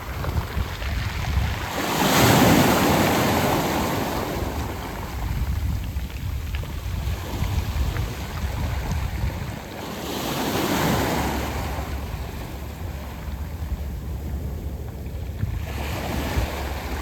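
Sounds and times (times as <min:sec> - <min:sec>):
waves washing onto pebbles: 0:00.0 - 0:17.0
wind rumble on microphone: 0:00.0 - 0:17.0.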